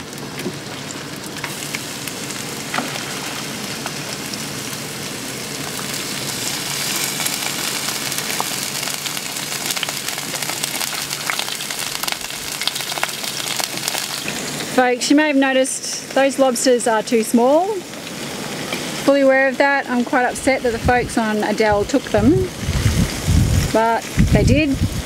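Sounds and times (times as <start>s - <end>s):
food sizzling on barbecue plate: 0.0s - 25.0s.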